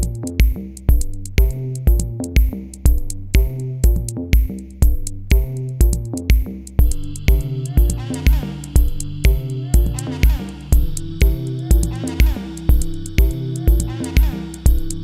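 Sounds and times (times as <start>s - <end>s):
electronic music with kick drum: 0.0s - 15.0s.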